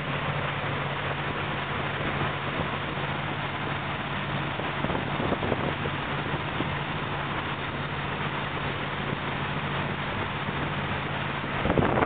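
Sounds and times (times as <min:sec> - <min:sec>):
boat engine running: 0:00.0 - 0:12.0
water rushing in wake: 0:00.0 - 0:12.0.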